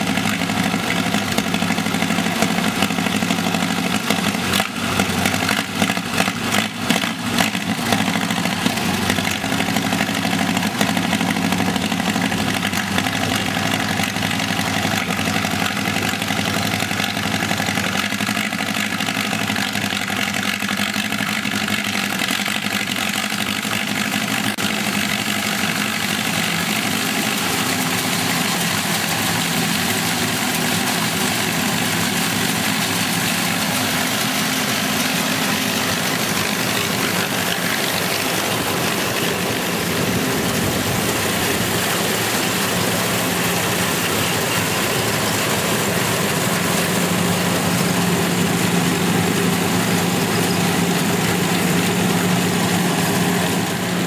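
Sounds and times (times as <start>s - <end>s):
four-cylinder engine running: 0.0s - 54.0s.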